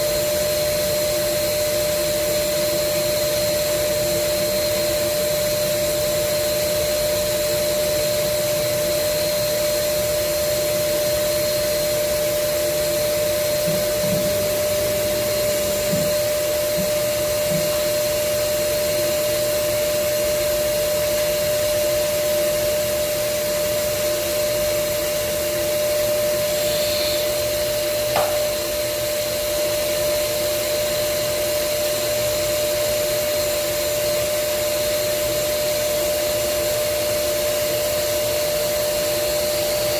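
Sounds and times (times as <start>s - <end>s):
grinding spindle motor hum: 0.0s - 39.9s.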